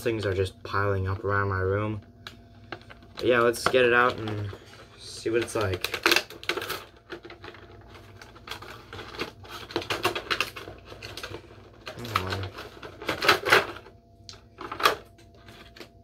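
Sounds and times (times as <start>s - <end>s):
packaging rustling and snapping: 2.2s - 16.0s.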